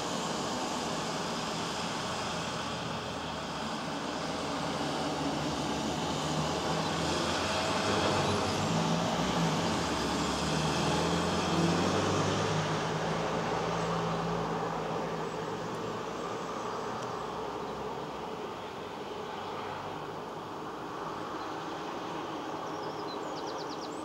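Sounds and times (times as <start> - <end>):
tyre hiss on wet road: 0.0 - 22.4
car engines running: 0.0 - 24.0
low engine hum: 0.0 - 24.0.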